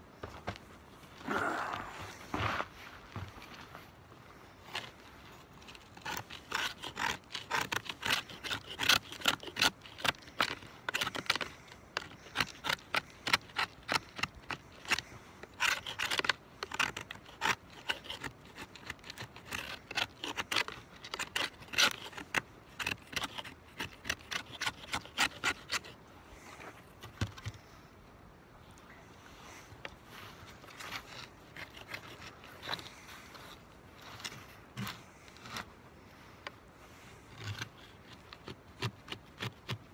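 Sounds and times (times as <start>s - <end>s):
knife scraping wood: 4.6s - 27.8s, 29.5s - 39.9s.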